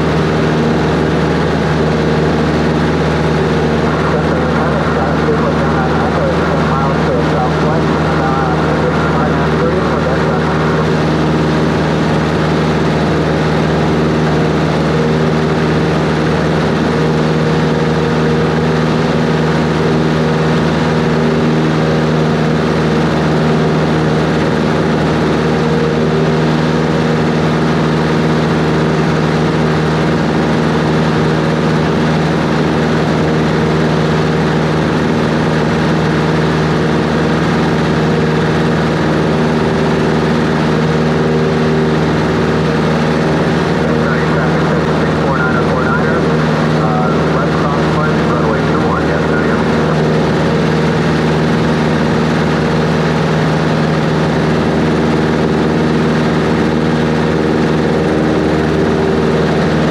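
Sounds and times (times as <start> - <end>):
propeller plane engine drone: 0.0 - 59.9.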